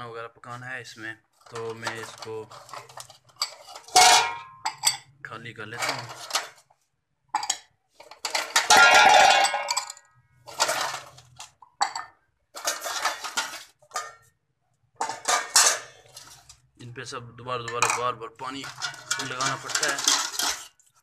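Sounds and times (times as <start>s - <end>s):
metal dishes clattering in a pot: 1.4s - 6.6s, 7.3s - 14.3s, 15.0s - 16.7s, 17.6s - 21.0s.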